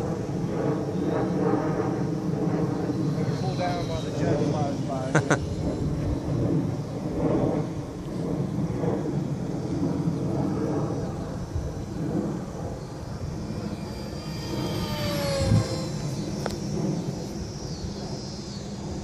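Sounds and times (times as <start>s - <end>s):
model plane motor whine: 0.0s - 19.0s
wind on microphone: 0.0s - 19.0s.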